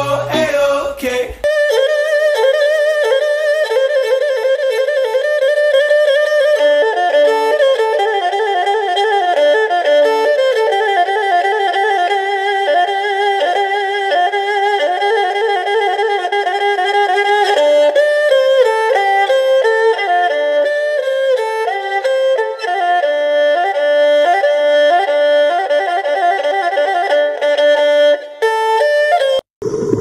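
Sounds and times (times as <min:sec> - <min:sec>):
erhu playing quick melody: 0:00.0 - 0:29.4.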